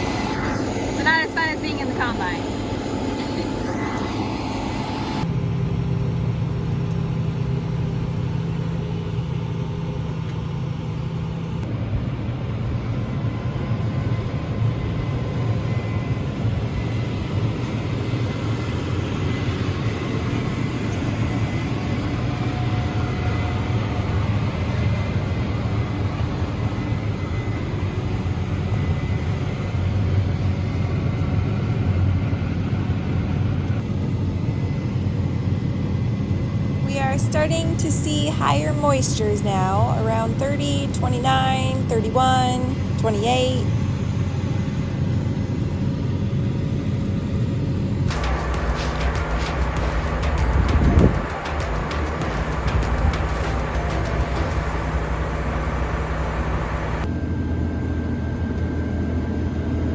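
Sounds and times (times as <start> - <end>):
heavy machinery engine droning: 0.0 - 30.6, 33.6 - 58.7.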